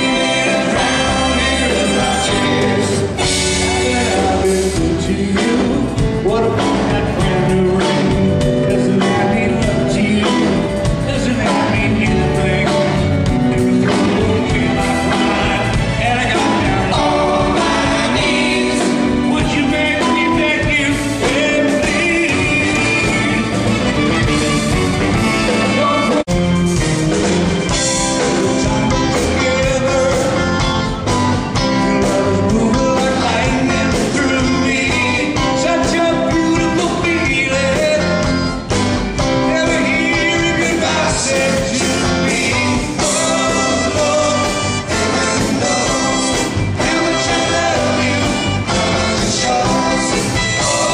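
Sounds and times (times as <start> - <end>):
live rock band with singer: 0.0 - 50.9.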